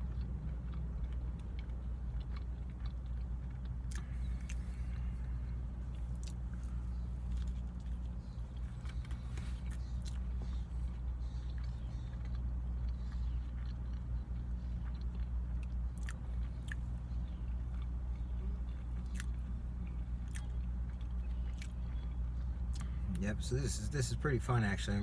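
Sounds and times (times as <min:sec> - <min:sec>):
chewing and biting food: 0:00.0 - 0:24.2
steady low hum: 0:00.0 - 0:25.0.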